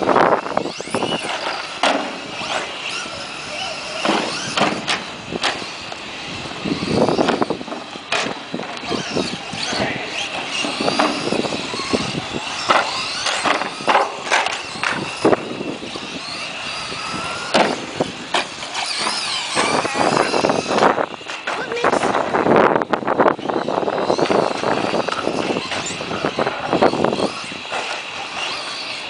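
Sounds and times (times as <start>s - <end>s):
electric motors whining: 0.0s - 29.0s.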